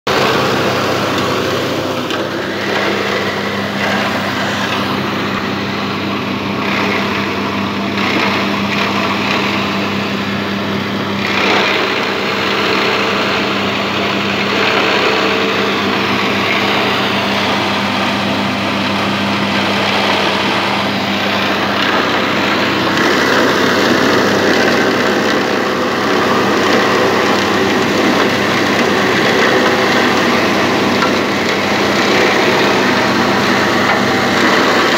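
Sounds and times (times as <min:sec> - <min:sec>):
motor humming: 0:00.1 - 0:34.9.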